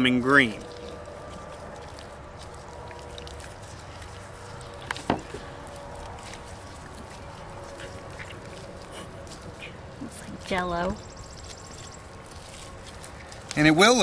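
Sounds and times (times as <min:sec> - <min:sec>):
slime squishing in hands: 0:00.0 - 0:14.0.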